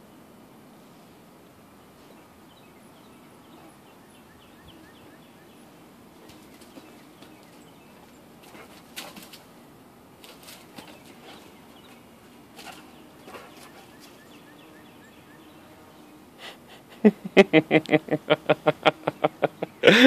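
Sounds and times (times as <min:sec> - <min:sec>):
faint outdoor background: 0:00.0 - 0:20.0.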